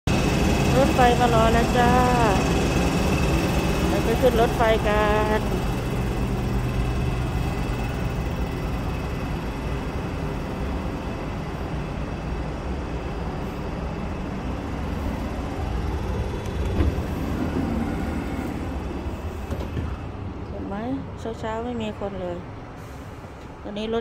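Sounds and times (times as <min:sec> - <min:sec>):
standing train humming: 0:00.0 - 0:24.0.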